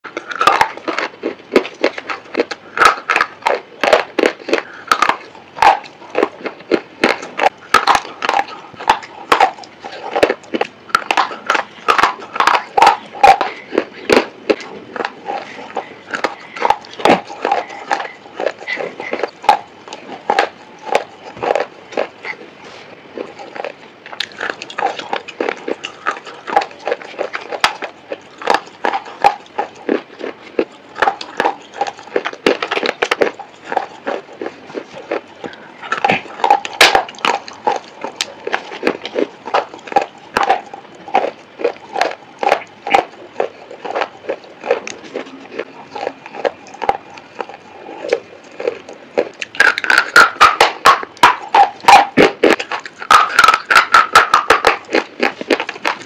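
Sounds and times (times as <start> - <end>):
slate pencils crunching when chewed: 0.0 - 56.0.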